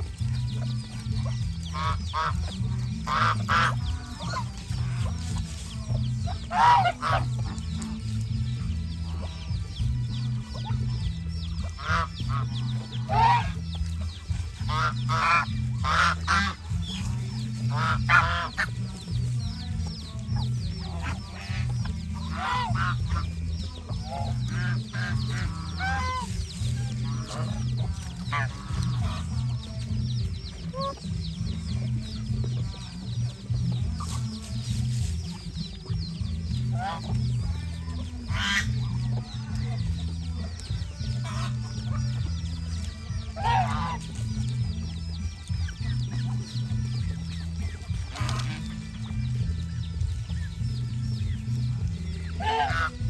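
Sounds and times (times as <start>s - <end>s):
background music with low beat: 0.0s - 53.0s
geese honking: 0.0s - 53.0s.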